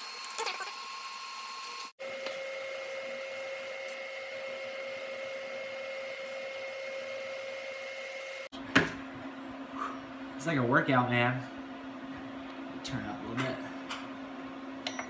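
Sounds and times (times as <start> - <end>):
induction cooktop whine: 0.0 - 15.0.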